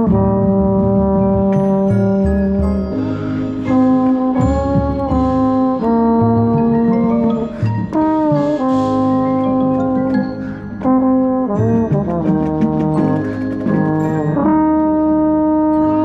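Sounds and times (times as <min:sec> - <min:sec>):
marching band brass playing: 0:00.0 - 0:16.0
trombone holding long notes: 0:00.0 - 0:16.0.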